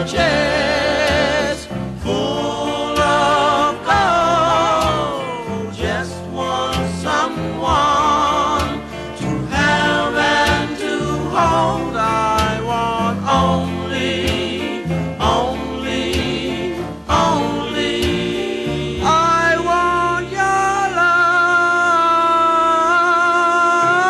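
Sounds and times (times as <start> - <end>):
bass line: 0.0 - 22.0
person singing reggae: 0.0 - 24.0.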